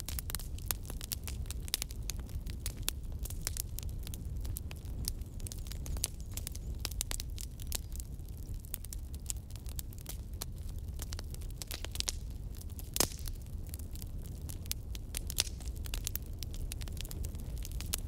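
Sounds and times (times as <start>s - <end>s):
low steady fire rumble: 0.0s - 18.0s
wood fire crackling and popping: 0.0s - 18.0s.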